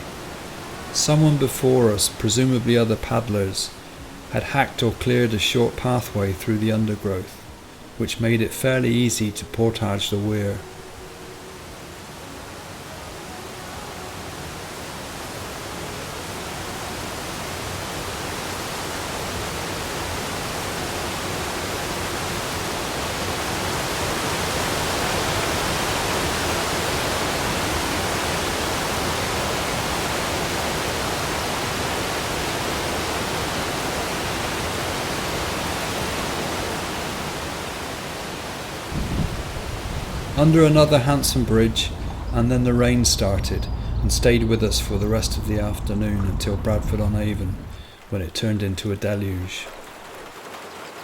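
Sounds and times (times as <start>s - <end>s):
water rushing over a weir: 9.9s - 51.0s.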